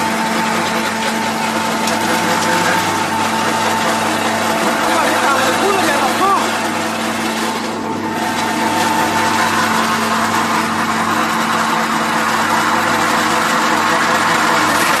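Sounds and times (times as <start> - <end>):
electric motor hum: 0.0 - 15.0
pellet mill grinding: 0.0 - 15.0.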